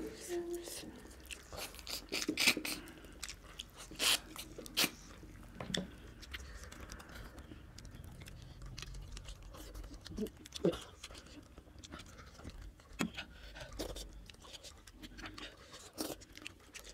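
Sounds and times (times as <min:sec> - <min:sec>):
chewing and mouth smacks: 0:00.5 - 0:16.9.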